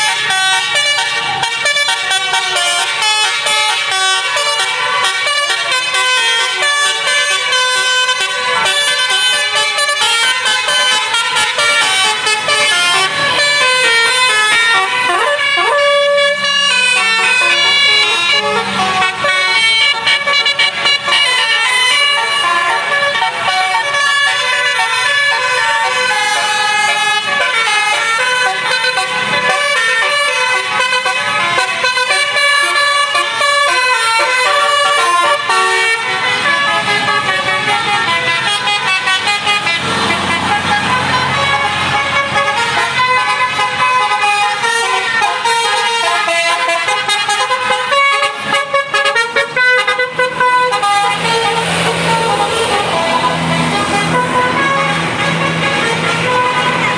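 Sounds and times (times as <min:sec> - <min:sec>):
multi-tone bus horn melodies: 0:00.0 - 0:56.9
road traffic noise: 0:00.0 - 0:56.9.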